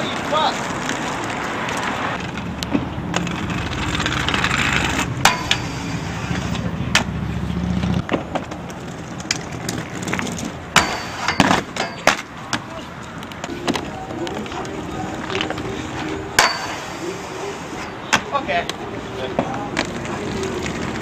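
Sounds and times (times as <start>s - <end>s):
inline skates rolling on concrete: 0.0s - 21.0s
skate wheels clacking on ground: 0.0s - 21.0s
vehicle engine humming: 0.4s - 21.0s.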